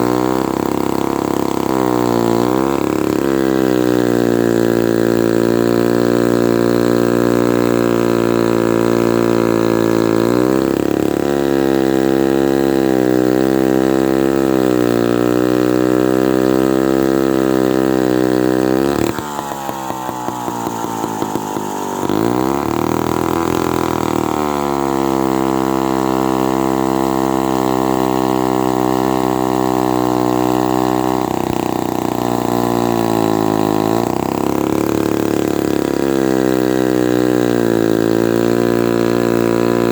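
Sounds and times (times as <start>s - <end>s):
chainsaw engine cutting wood: 0.0s - 39.9s.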